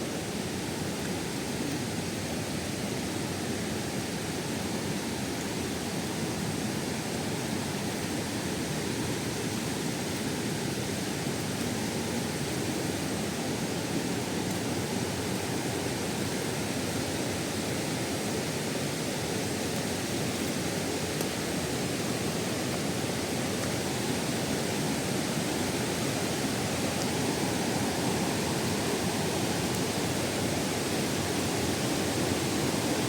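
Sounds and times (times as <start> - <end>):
waterfall rushing: 3.6 - 33.0.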